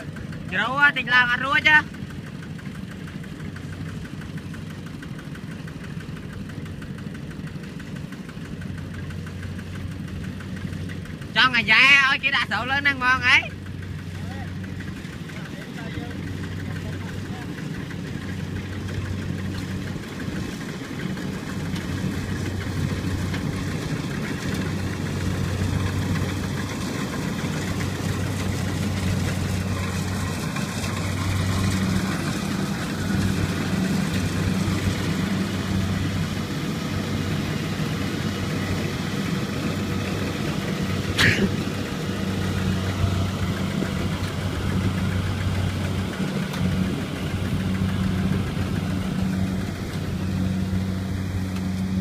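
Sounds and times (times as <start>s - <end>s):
diesel tractor engine running: 0.0s - 52.0s.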